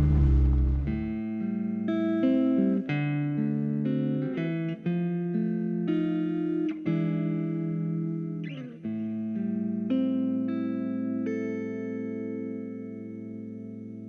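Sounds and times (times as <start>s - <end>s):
guitar chords: 0.0s - 14.0s.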